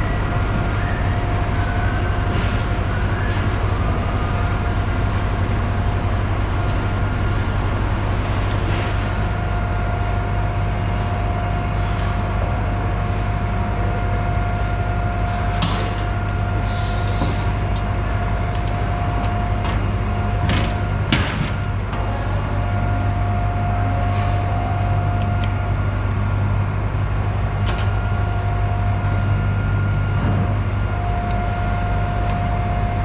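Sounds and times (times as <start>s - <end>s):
engine room low hum: 0.0s - 33.0s
steady machine whine: 0.0s - 33.0s.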